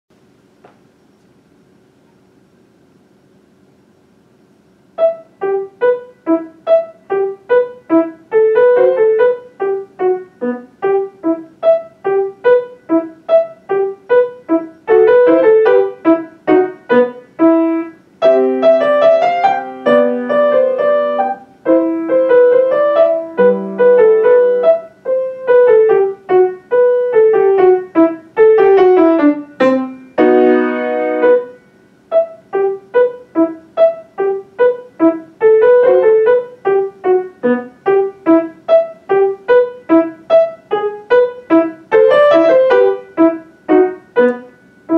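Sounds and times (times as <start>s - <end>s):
grand piano playing: 5.0s - 44.9s.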